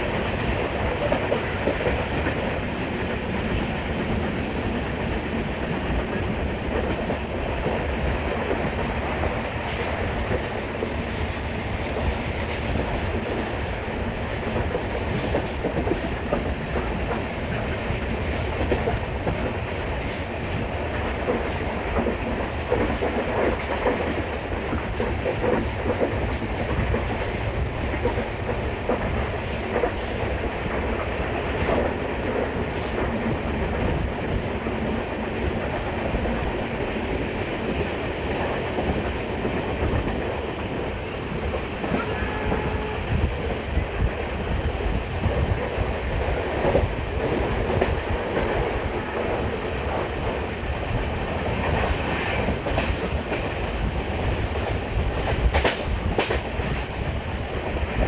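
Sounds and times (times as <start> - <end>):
train wheels rumbling and clicking: 0.0 - 58.0.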